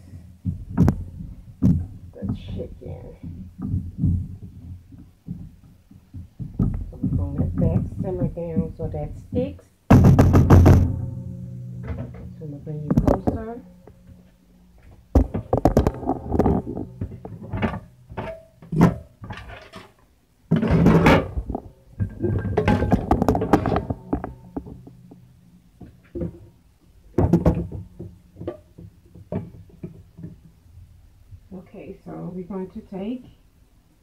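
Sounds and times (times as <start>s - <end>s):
kitchen items knocking and rustling: 0.0s - 31.5s
low steady hum: 0.0s - 34.0s.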